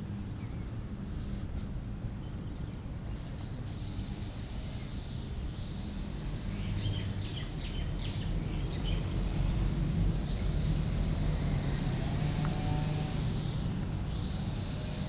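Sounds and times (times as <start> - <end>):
low outdoor rumble: 0.0 - 15.0
birds chirping: 2.1 - 15.0.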